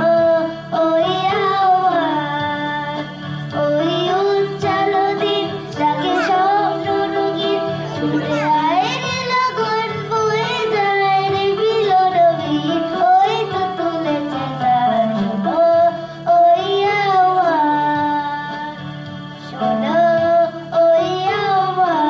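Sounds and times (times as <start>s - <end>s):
electronic keyboard: 0.0s - 22.0s
girl singing into microphone: 0.0s - 22.0s.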